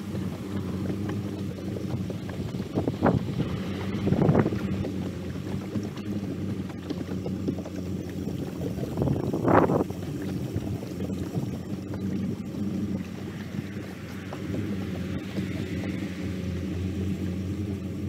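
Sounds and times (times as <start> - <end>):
boat motor humming: 0.0 - 18.0
water noise: 0.0 - 18.0
wind noise: 0.0 - 18.0.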